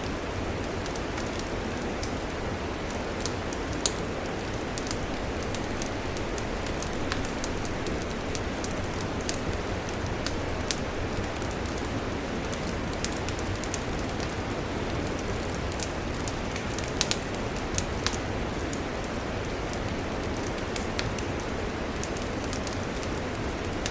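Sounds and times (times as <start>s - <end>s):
campfire crackling and popping: 0.1s - 23.9s.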